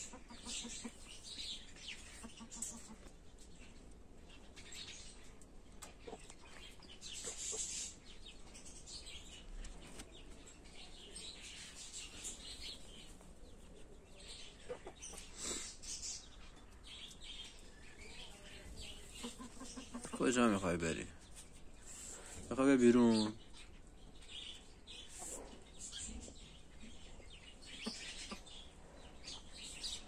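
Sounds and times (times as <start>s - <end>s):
chickens clucking: 0.0s - 23.9s, 24.5s - 30.0s.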